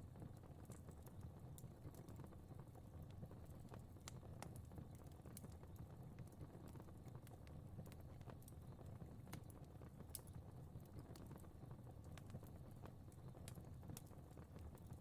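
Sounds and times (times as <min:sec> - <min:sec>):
faint fire crackling: 0:00.0 - 0:15.0.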